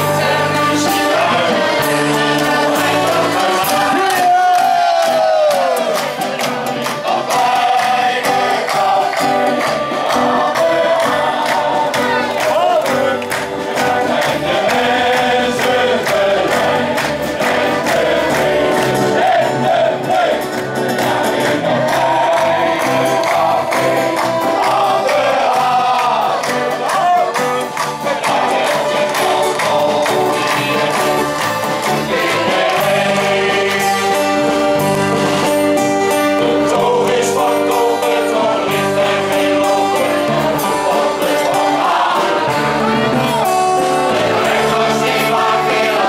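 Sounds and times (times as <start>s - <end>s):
acoustic guitar: 0.0s - 46.0s
banjo: 0.0s - 46.0s
drums beating: 0.0s - 46.0s
men's choir singing: 0.0s - 46.0s
hand claps: 1.9s - 46.0s.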